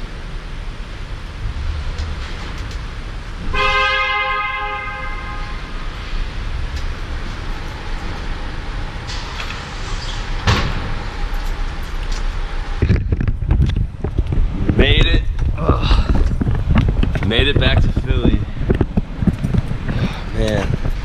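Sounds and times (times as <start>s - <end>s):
car road rumble from inside: 0.0s - 21.0s.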